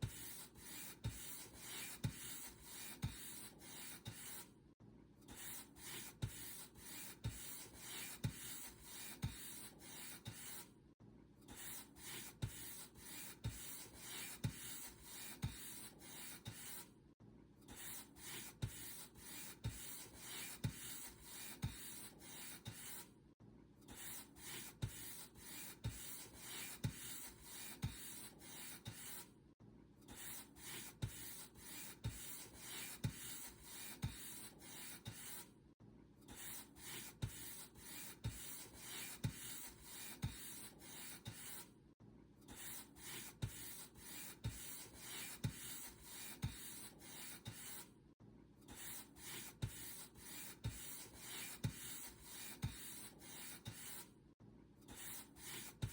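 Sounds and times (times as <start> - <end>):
paint brush stroking a surface: 0.1 - 4.5, 5.4 - 10.7, 11.6 - 16.9, 17.8 - 23.1, 24.0 - 29.3, 30.2 - 35.5, 36.4 - 41.7, 42.6 - 47.9, 48.7 - 54.1, 54.9 - 55.9.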